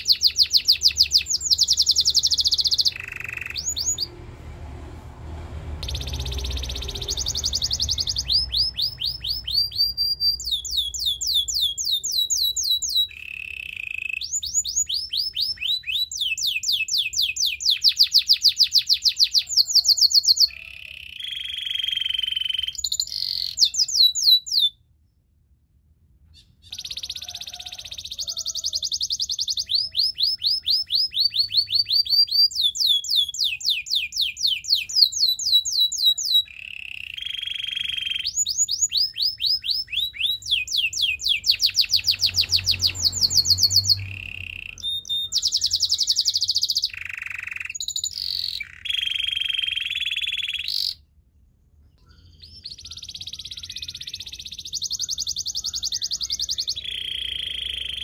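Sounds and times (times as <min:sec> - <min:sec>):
canary singing trills: 0:00.0 - 0:04.2, 0:05.8 - 0:25.2, 0:26.3 - 0:51.1, 0:51.8 - 0:58.0.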